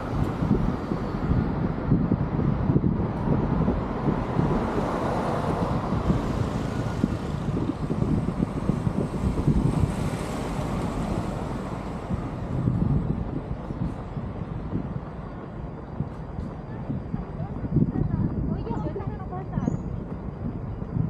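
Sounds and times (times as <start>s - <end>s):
city traffic: 0.0s - 21.0s
wind buffeting microphone: 0.0s - 21.0s.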